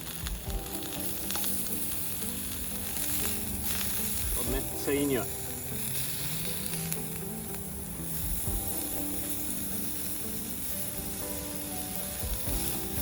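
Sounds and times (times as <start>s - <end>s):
background music: 0.0s - 13.0s
meat sizzling on hot plate: 0.0s - 13.0s.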